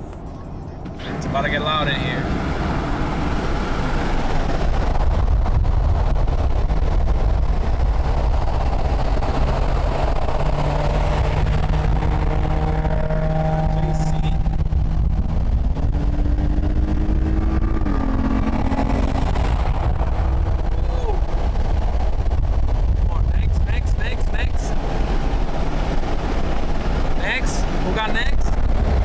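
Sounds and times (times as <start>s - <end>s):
car engine: 0.0s - 29.0s
road noise inside car: 0.0s - 29.0s.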